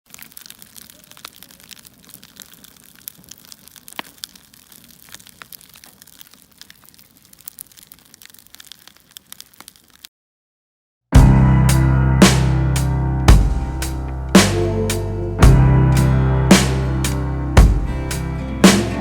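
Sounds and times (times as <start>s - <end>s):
wood fire crackling: 0.0s - 10.1s, 11.2s - 19.0s.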